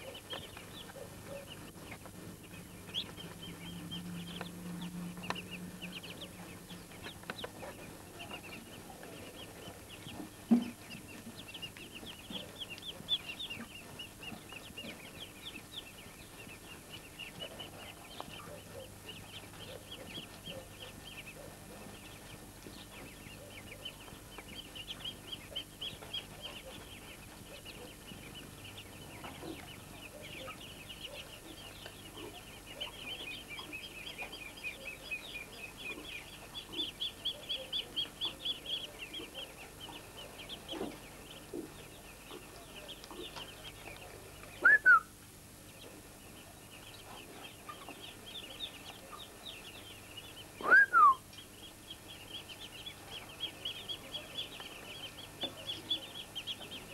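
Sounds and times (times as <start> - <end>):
ducklings peeping: 0.0 - 56.9.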